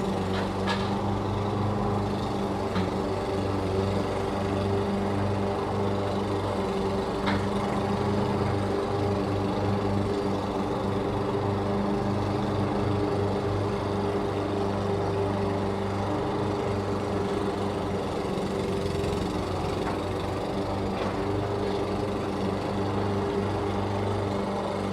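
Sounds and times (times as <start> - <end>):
lawn mower engine droning: 0.0 - 24.9.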